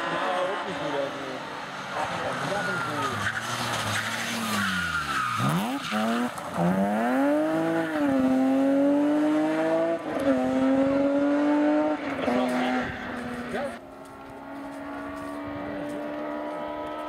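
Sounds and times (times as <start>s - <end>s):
tyres skidding on loose road: 0.0s - 13.8s
rally car engine revving: 0.0s - 17.0s.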